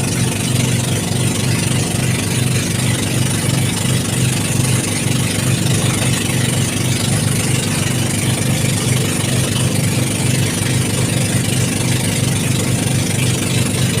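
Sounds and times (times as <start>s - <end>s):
boat engine chugging: 0.0s - 14.0s.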